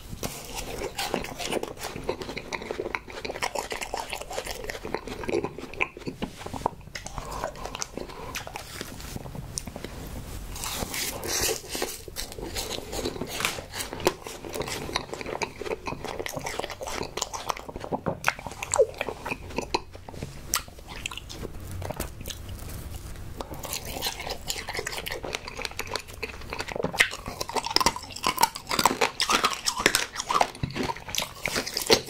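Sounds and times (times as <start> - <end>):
person chewing close up: 0.0 - 32.0.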